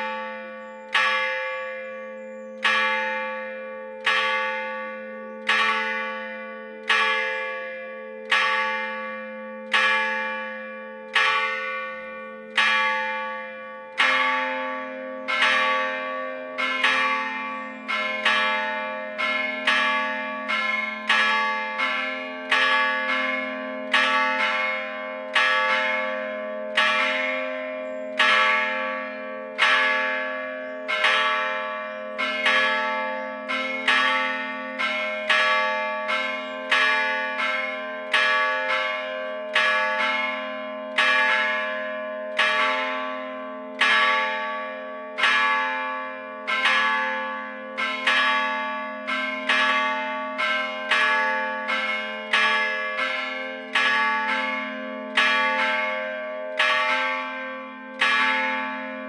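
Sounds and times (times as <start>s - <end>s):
large church bell tolling: 0.0s - 59.0s
second church bell striking: 0.0s - 59.0s.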